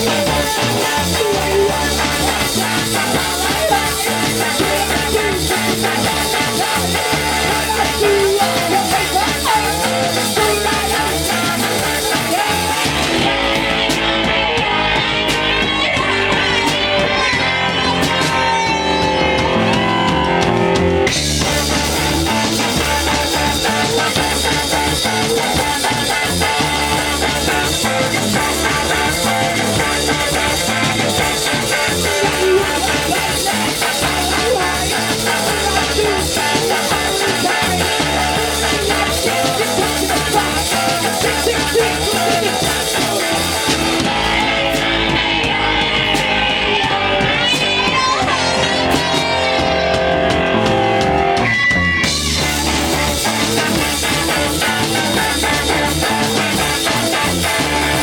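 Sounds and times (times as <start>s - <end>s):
bass guitar: 0.0s - 58.0s
drums: 0.0s - 58.0s
electric guitar: 0.0s - 58.0s
punk rock band playing: 0.0s - 58.0s.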